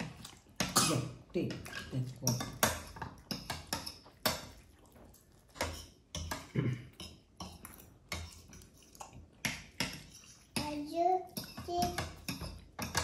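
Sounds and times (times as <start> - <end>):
cutlery clinking on ceramic bowls: 0.6 - 4.7, 5.5 - 13.0.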